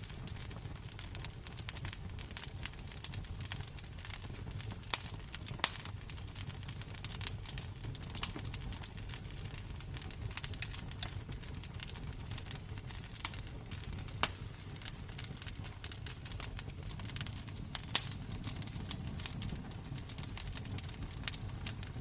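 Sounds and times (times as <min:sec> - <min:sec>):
fire crackling and popping: 0:00.0 - 0:22.0
low rumble of fire: 0:00.0 - 0:22.0.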